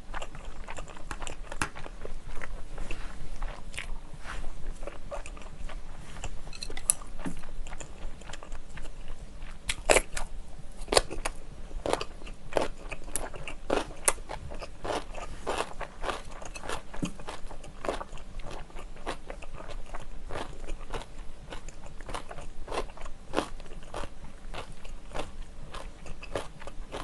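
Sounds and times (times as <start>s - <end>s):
chewing and crunching food: 0.0s - 27.0s.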